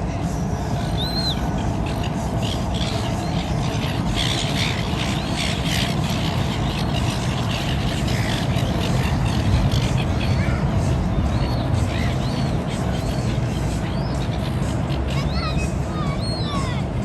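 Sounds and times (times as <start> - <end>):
loud low rumble: 0.0 - 15.3
small birds chirping: 0.2 - 17.0.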